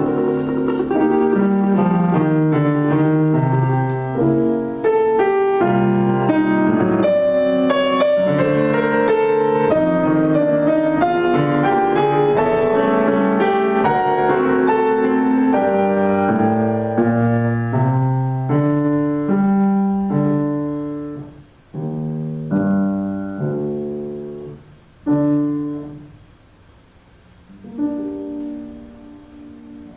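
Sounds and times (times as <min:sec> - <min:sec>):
solo piano: 0:00.0 - 0:29.9.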